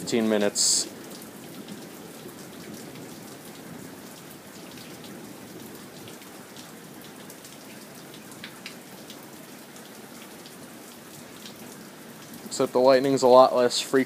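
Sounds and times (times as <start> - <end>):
raindrops ticking on a surface: 0.0 - 14.0
steady rain falling: 0.0 - 14.0.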